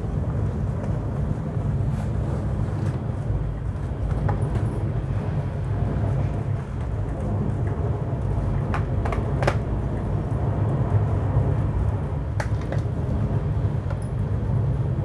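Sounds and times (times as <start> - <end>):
train coach rumbling on rails: 0.0 - 15.0.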